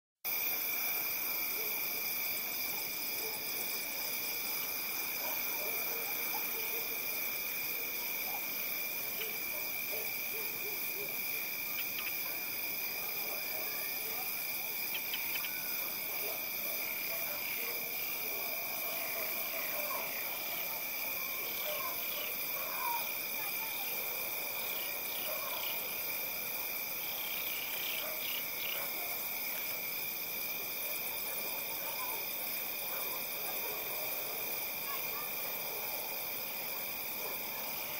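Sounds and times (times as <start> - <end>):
crickets trilling: 0.3 - 37.9.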